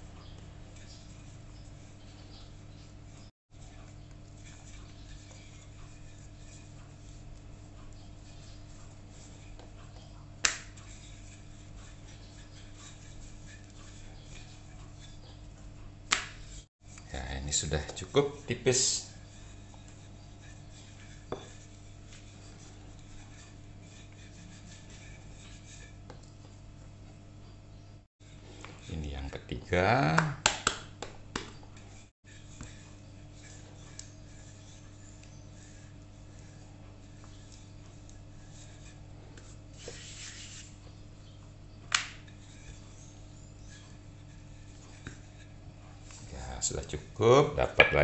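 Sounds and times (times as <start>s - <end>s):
rolling pin rubbing dough: 0.0s - 27.6s, 28.2s - 48.0s
steady low hum: 0.0s - 48.0s.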